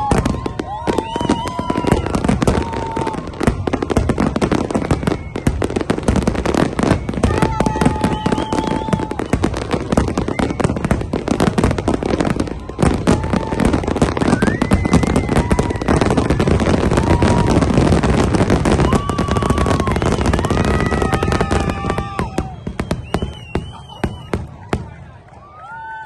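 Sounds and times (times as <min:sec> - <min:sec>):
fireworks crackling bangs: 0:00.0 - 0:25.3.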